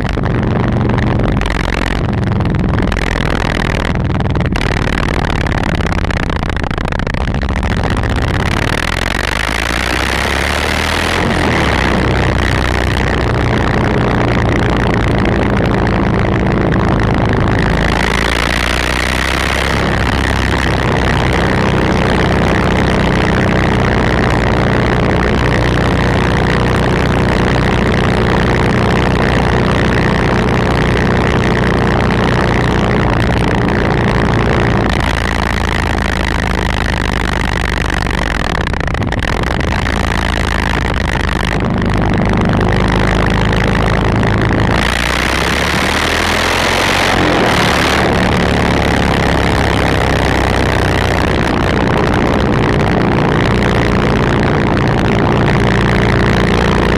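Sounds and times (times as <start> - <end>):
motorcycle engine idling: 0.0 - 46.2.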